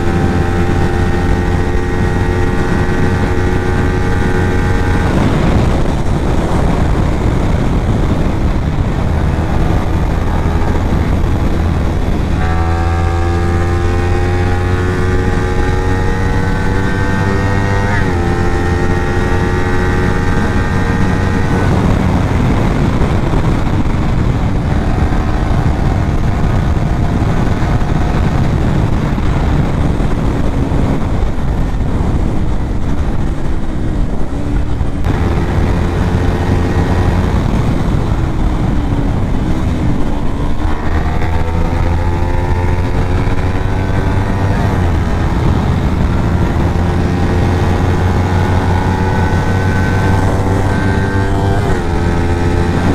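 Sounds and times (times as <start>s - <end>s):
motorcycle engine accelerating: 0.0s - 52.9s
wind and road rush: 0.0s - 52.9s.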